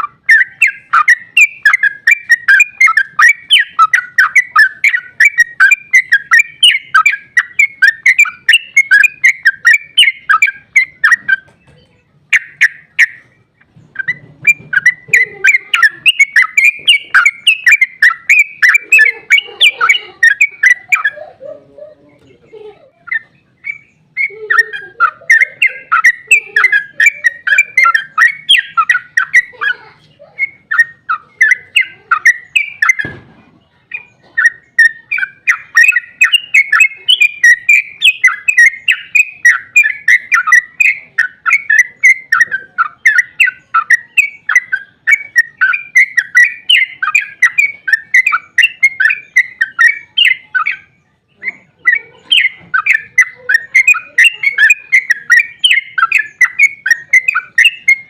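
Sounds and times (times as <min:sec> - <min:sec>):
bird singing chattering runs: 0:00.0 - 0:58.0
fainter lower bird calls: 0:00.0 - 0:58.0.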